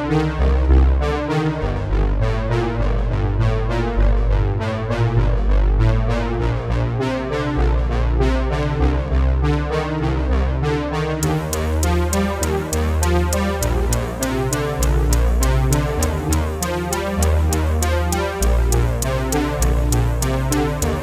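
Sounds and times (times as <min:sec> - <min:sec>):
synthesizer and keyboard music: 0:00.0 - 0:21.0.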